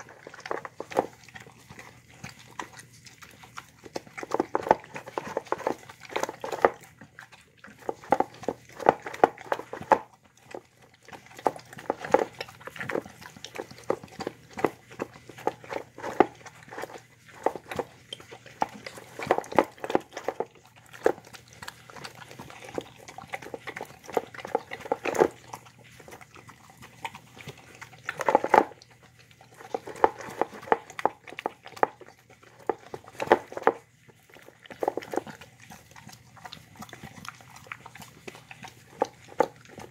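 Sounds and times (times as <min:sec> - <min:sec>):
dog chewing and licking food: 0:00.0 - 0:39.9.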